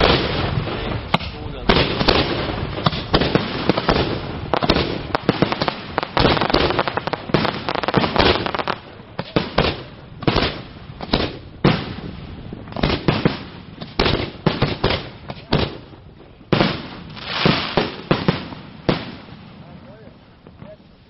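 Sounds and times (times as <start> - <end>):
fireworks bursting with sharp bangs: 0.0 - 21.0.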